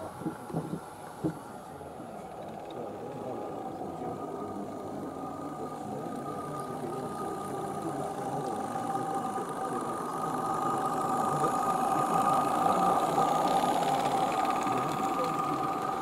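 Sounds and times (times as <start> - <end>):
high-pitched whine: 0.0 - 16.0
steam locomotive chuffing: 0.0 - 16.0.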